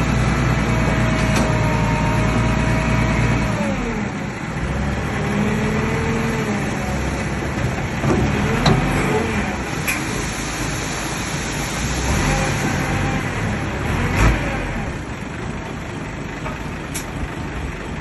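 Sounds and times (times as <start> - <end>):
bulldozer diesel engine: 0.0 - 18.0
engine whine: 0.0 - 18.0.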